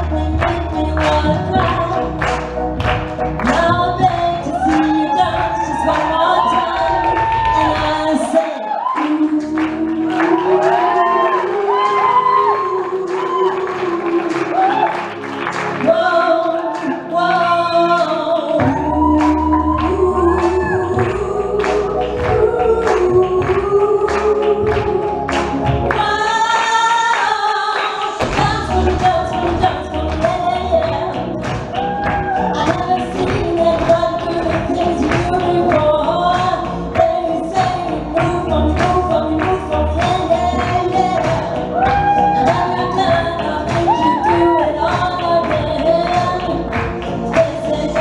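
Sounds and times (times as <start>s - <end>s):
pop song with singing: 0.0s - 48.0s.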